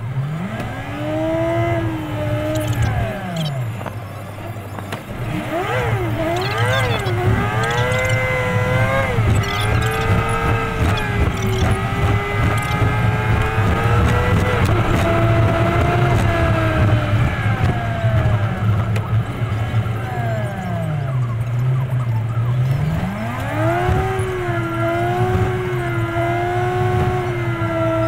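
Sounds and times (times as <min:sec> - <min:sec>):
sped-up truck engine: 0:00.0 - 0:28.0.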